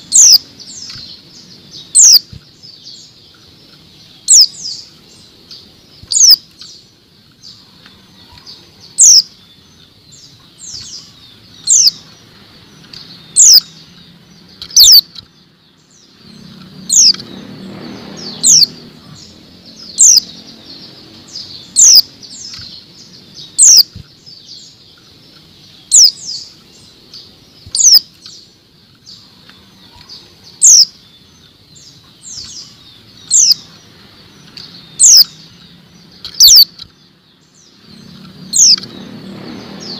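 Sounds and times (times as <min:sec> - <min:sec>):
bird high chirps: 0:00.0 - 0:39.9.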